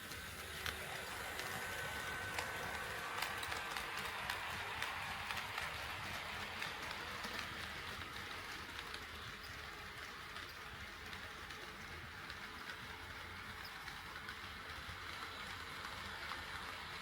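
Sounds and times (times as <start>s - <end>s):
model train wheels on rails: 0.0s - 17.0s.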